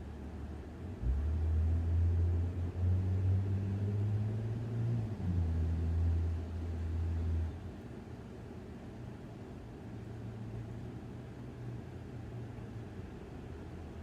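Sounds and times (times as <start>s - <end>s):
street traffic drone: 0.0s - 14.0s.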